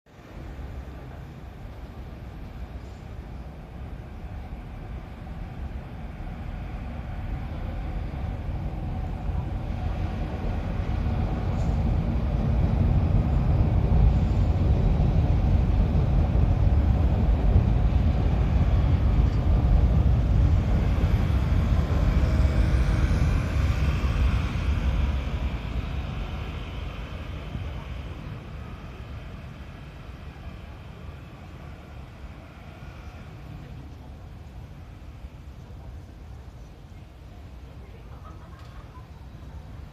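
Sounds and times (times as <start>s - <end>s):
train passing: 0.1s - 39.9s.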